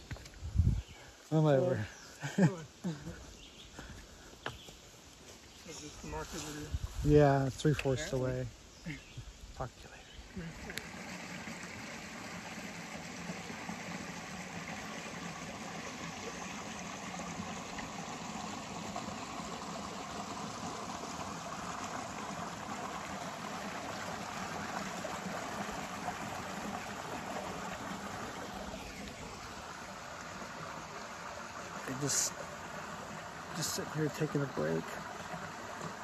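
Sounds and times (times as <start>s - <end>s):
stream flowing over boulders: 1.1s - 36.0s.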